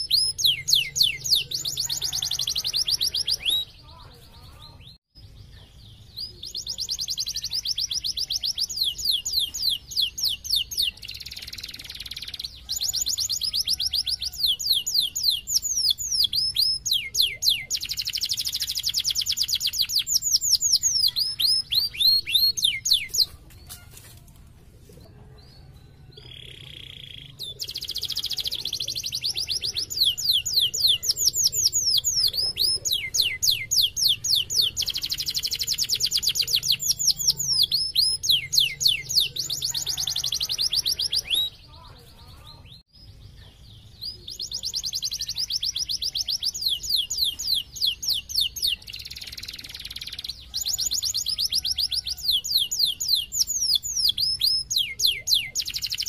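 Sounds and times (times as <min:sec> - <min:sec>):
canary singing trills: 0:00.0 - 0:24.0, 0:25.3 - 0:56.0.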